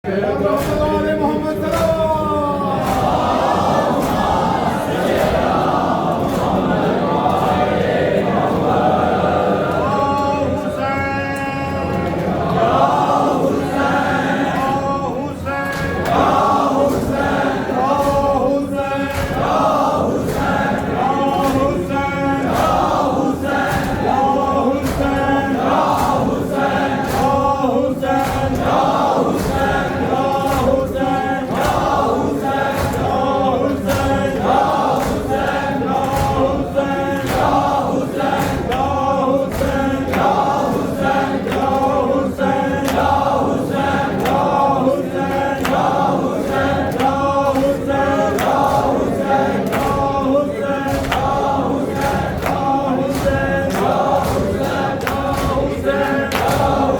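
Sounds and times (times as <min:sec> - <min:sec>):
men chanting together: 0:00.0 - 0:56.9
sharp beats: 0:00.1 - 0:56.9.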